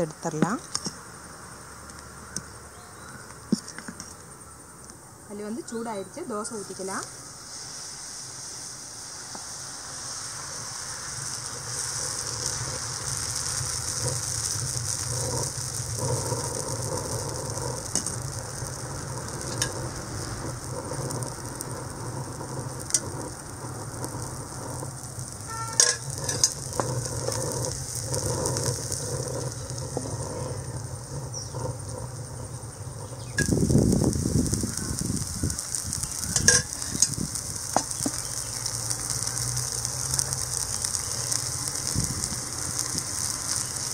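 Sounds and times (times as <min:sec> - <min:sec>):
batter sizzling on griddle: 0:00.0 - 0:43.9.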